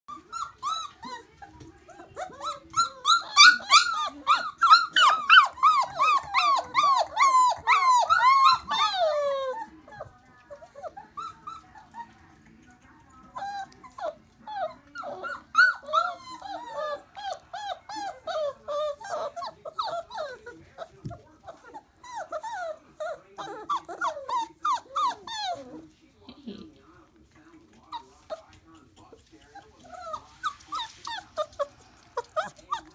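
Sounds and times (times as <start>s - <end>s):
puppies whining and whimpering: 0.1s - 12.4s, 13.2s - 25.9s, 27.8s - 28.5s, 29.4s - 32.9s.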